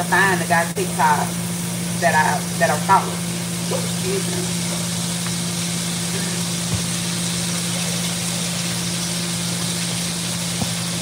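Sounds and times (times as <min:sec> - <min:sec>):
appliance fan humming: 0:00.0 - 0:11.0.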